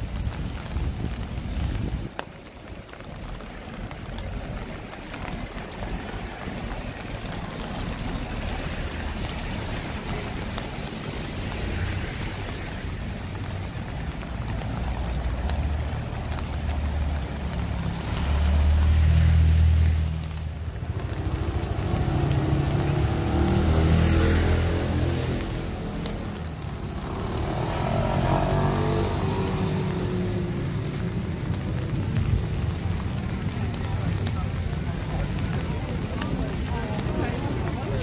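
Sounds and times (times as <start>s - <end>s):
rain on wet pavement: 0.0s - 38.0s
vehicle engines passing: 0.0s - 38.0s.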